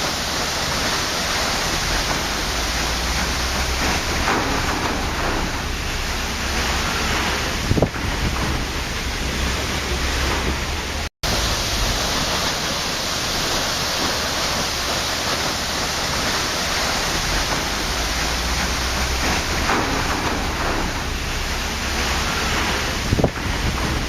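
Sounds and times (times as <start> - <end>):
waterfall rushing water: 0.0 - 24.0.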